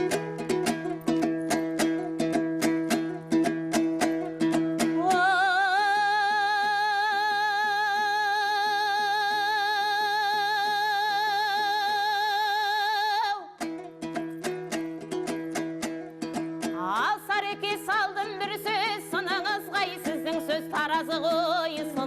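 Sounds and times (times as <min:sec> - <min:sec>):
fast lute strumming: 0:00.0 - 0:10.4, 0:13.1 - 0:22.0.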